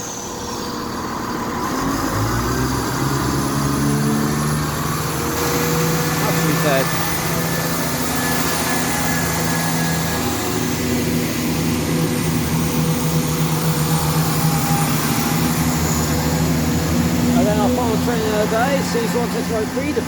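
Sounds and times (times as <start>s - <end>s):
train diesel engine humming: 0.0s - 20.0s.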